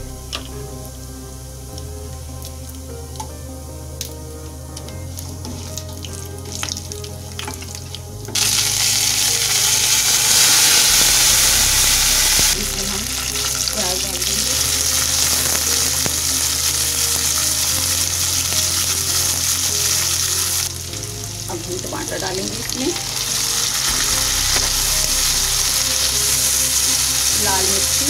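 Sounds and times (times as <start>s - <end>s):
spices sizzling in hot oil: 4.8s - 28.0s.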